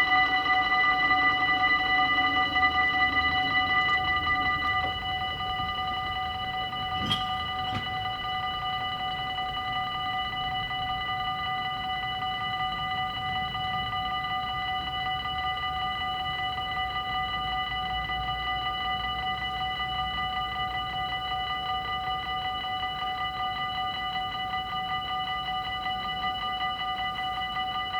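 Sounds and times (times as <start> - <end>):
level crossing warning bells: 0.0 - 27.9.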